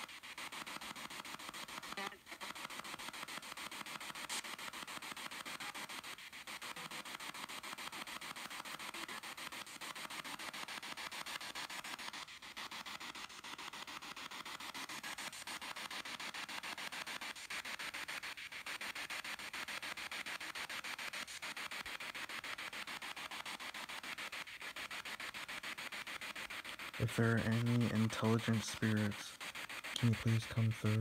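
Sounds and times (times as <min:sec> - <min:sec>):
pulsing radio static: 0:00.0 - 0:31.0.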